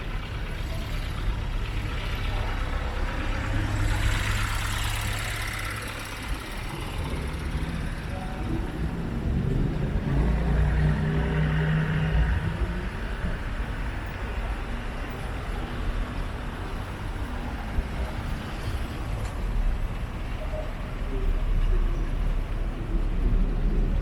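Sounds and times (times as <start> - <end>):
passing vehicles: 0.0 - 24.0
vehicle engine running nearby: 0.0 - 24.0.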